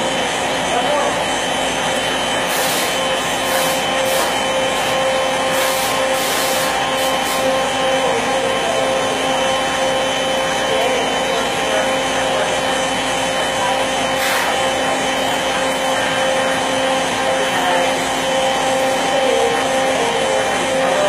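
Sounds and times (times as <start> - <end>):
loud rushing noise of wood cutting: 0.0 - 21.0
router spindle whine: 0.0 - 21.0.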